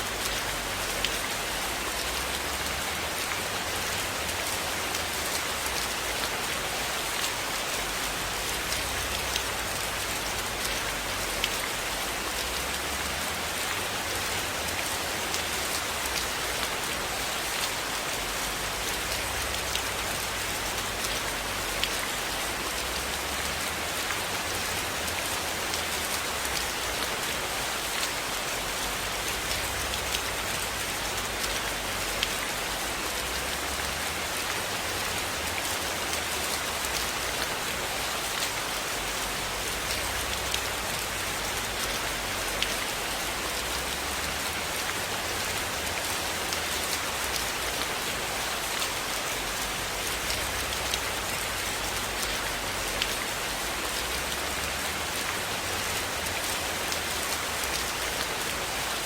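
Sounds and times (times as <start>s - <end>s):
rain falling on a cabin: 0.0s - 59.0s.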